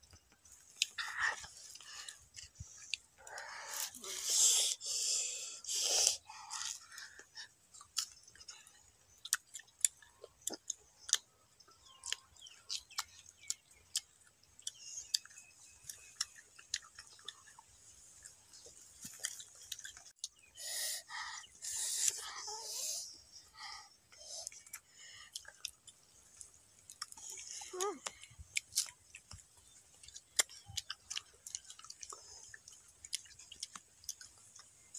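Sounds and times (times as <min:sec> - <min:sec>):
mango being chewed crunching: 0:00.0 - 0:04.8, 0:05.7 - 0:22.5, 0:23.6 - 0:34.9.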